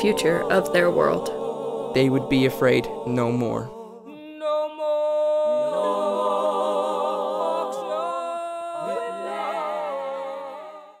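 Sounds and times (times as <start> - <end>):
vocal group singing in harmony: 0.0 - 11.0.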